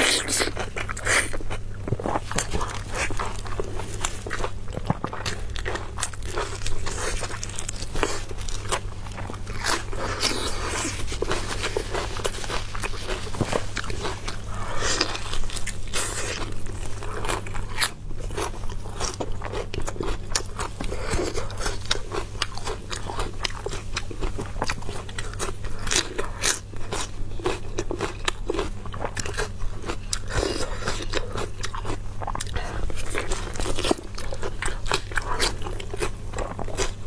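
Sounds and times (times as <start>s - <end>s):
chewing and biting: 0.0s - 37.0s
faint low hum: 0.0s - 37.0s.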